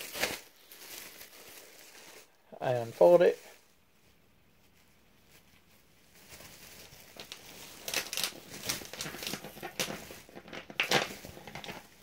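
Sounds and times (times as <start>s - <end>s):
pee pad crinkling and rustling: 0.0s - 12.0s.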